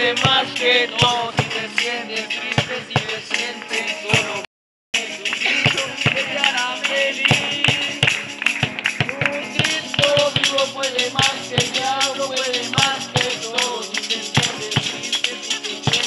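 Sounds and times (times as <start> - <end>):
voices singing a melody: 0.0 - 8.4, 9.0 - 16.0
tambourine beat: 0.0 - 16.0.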